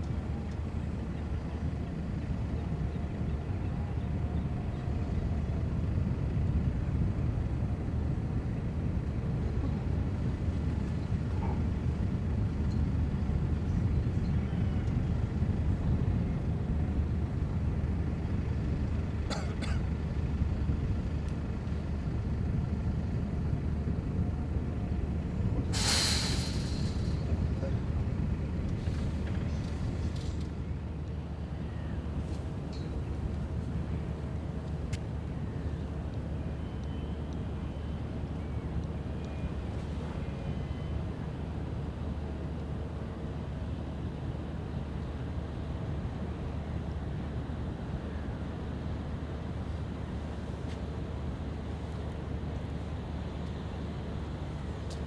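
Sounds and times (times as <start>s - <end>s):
low outdoor rumble: 0.0s - 55.0s.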